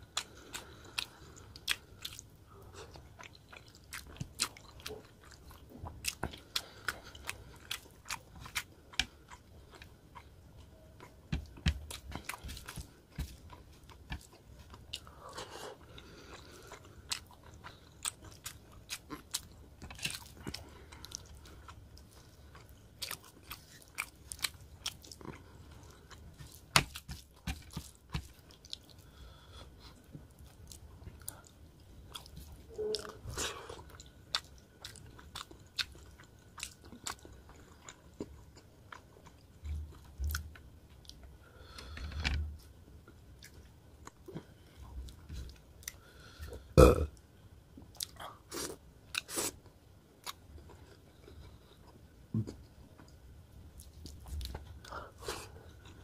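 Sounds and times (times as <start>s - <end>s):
person chewing food: 0.0s - 47.2s, 47.9s - 56.0s.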